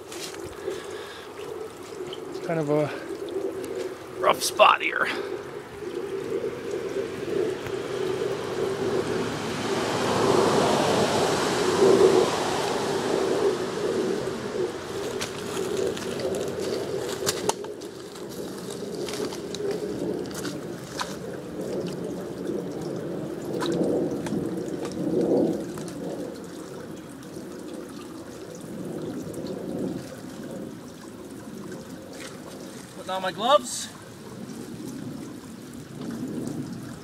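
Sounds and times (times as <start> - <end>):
water pouring from pipe splashing: 0.0 - 37.0.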